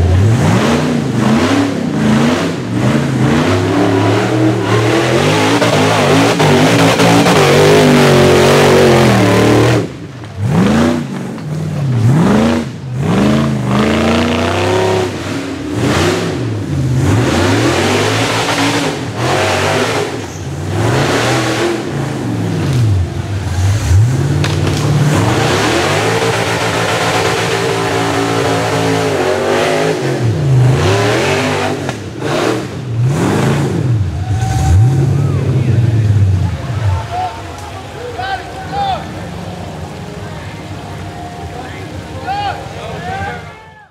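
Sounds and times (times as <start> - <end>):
buggy engine revving hard: 0.0 - 36.8.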